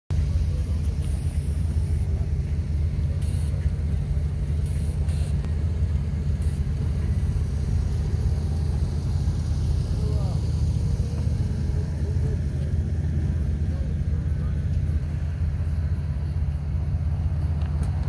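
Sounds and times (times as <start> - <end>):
car engine running: 0.1 - 18.0.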